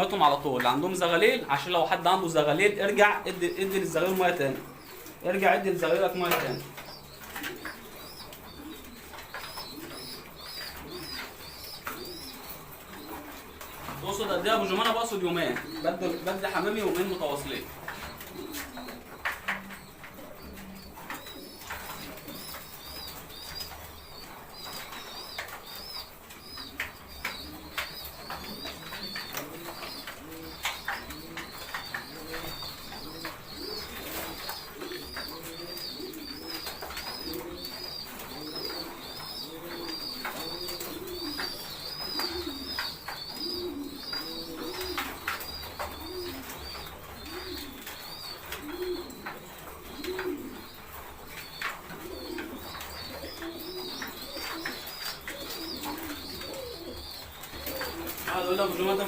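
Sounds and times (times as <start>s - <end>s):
pigeons cooing: 0.0s - 59.0s
rapid high-pitched peeping: 0.7s - 59.0s.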